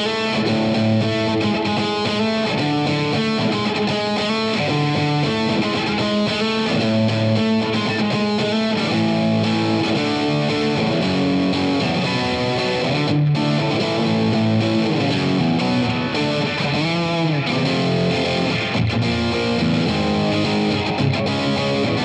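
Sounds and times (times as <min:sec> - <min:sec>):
electric guitar through an amp: 0:00.0 - 0:22.0.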